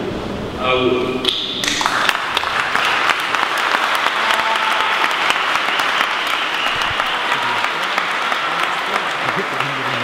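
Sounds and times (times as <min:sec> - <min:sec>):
crowd applauding: 0:01.6 - 0:10.0.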